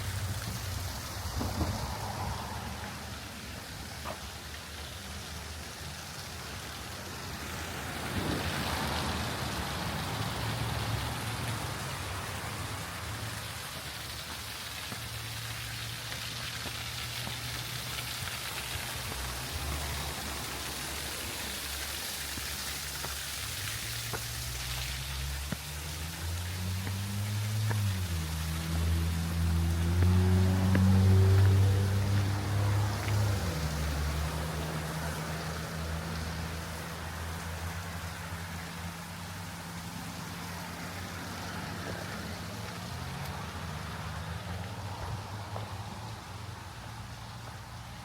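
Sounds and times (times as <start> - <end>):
low engine hum: 0.0 - 13.9, 16.7 - 48.0
steady rain-like hiss: 0.0 - 48.0.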